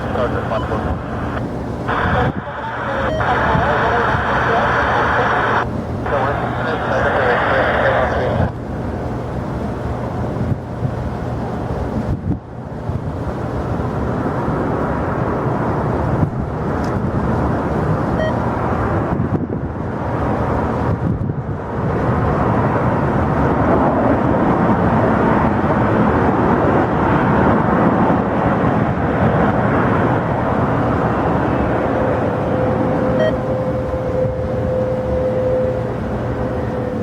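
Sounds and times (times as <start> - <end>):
jet engine rush: 0.0 - 37.0.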